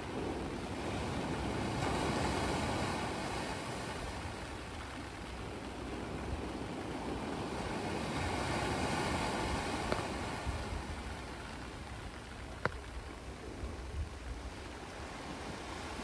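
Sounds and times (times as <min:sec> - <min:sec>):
ocean waves washing in: 0:00.0 - 0:16.0.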